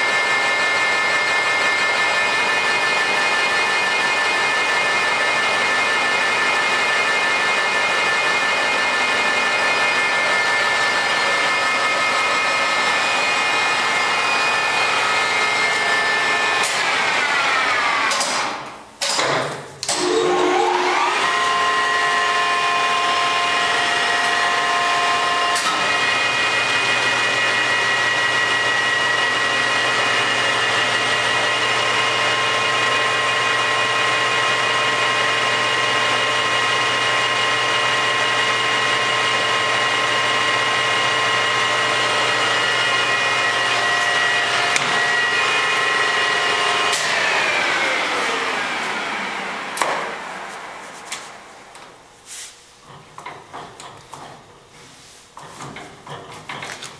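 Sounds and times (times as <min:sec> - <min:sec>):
lathe whining: 0:00.0 - 0:18.2, 0:19.9 - 0:51.9.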